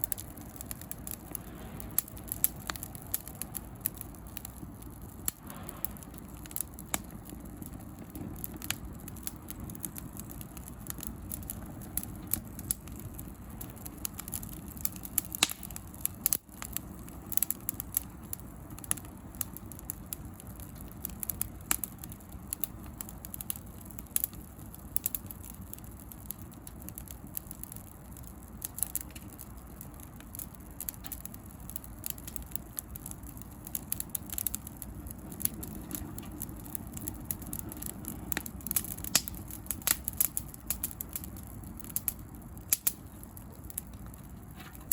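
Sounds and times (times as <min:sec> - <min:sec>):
bonfire crackling and popping: 0:00.0 - 0:44.9.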